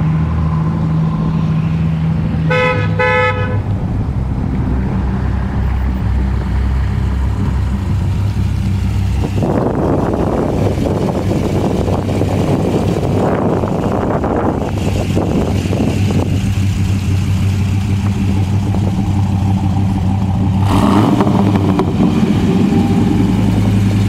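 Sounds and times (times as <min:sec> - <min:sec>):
truck engine droning: 0:00.0 - 0:24.0.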